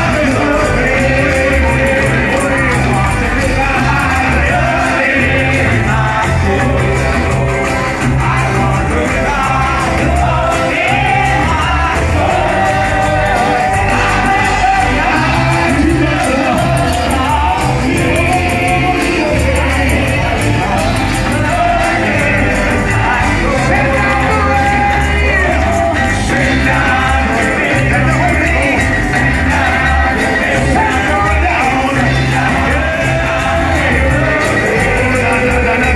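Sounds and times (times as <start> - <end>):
band with heavy bass: 0.0 - 35.9
gospel choir singing: 0.0 - 35.9.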